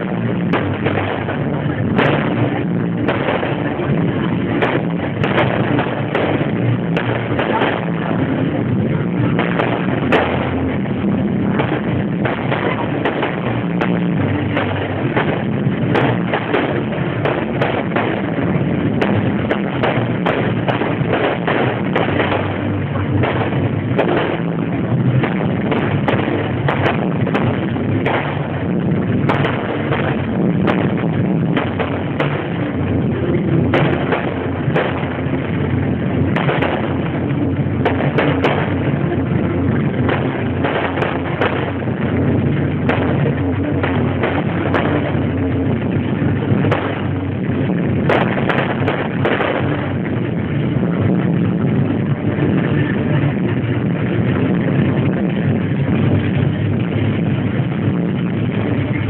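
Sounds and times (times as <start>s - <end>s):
fireworks bursting with bangs and crackles: 0.0s - 59.0s.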